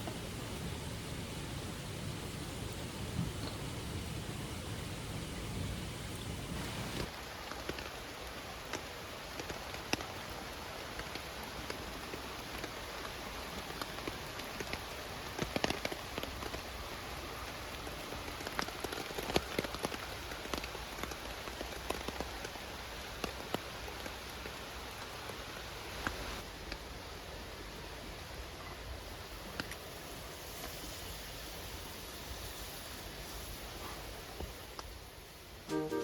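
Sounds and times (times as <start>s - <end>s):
rain hissing on a tarp: 0.0s - 36.0s.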